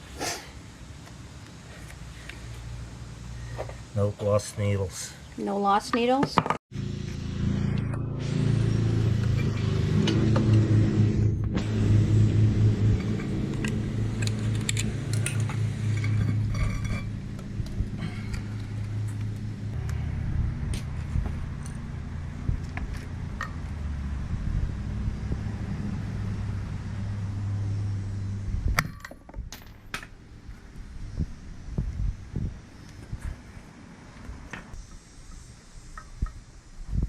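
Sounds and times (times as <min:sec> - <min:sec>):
steady low hum: 0:06.7 - 0:37.0.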